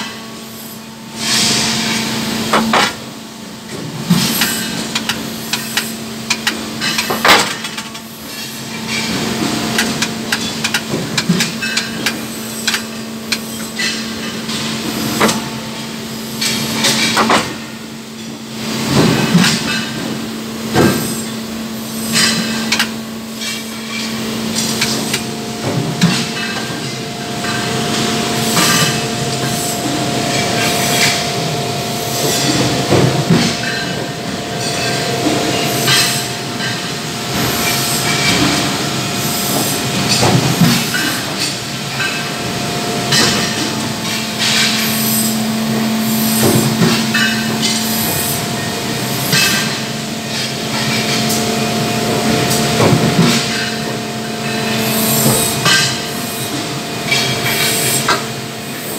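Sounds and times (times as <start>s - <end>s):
machinery humming: 0.0s - 58.9s.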